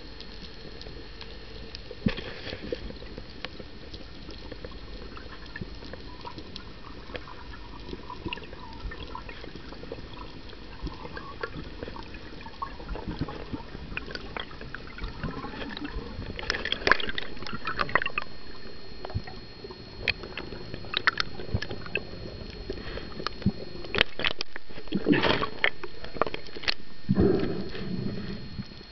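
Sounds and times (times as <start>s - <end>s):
bubbly crackling: 0.0s - 28.9s
sharp crackling clicks: 0.2s - 28.9s
underwater watery rush: 2.0s - 28.9s.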